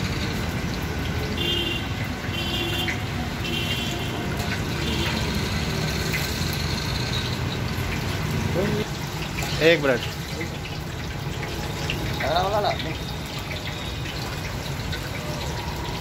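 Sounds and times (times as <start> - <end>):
hot oil sizzling: 0.0 - 16.0.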